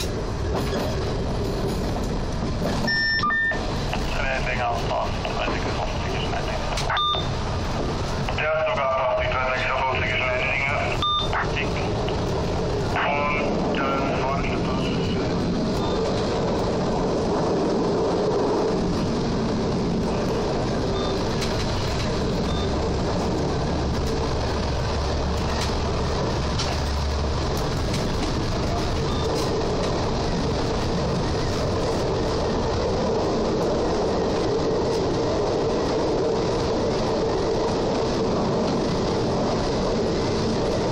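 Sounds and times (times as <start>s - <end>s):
constant drone: 0.0s - 40.9s
train wheels rumbling on rail: 0.0s - 40.9s.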